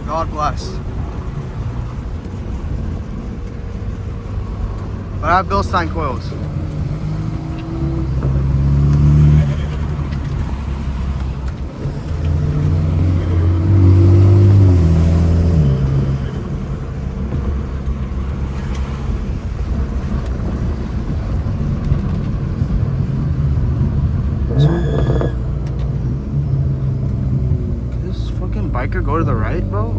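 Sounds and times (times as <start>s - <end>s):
car engine accelerating: 0.0s - 29.9s
road noise: 0.0s - 29.9s.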